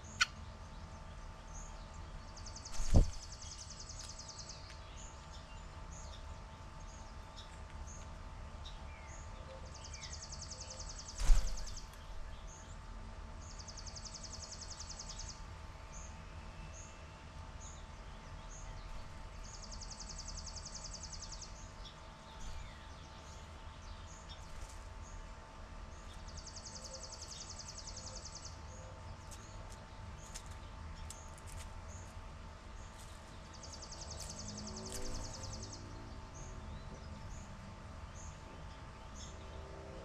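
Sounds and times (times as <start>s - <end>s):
sparrow trilling song: 0.0s - 12.8s, 13.4s - 17.0s, 17.6s - 39.6s.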